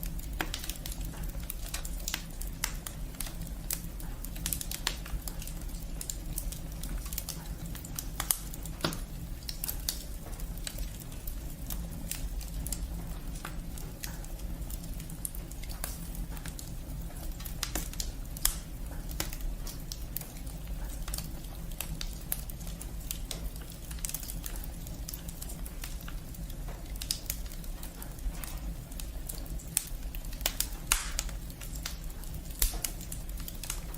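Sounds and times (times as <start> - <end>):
firewood crackling and popping: 0.0 - 33.9.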